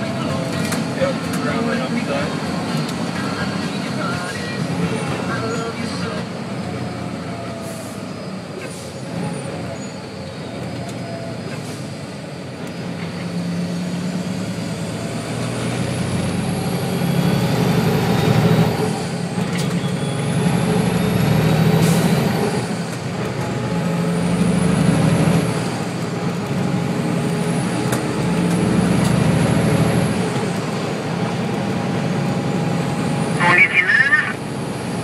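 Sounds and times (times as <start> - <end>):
truck engine shifting gears: 0.0 - 35.0.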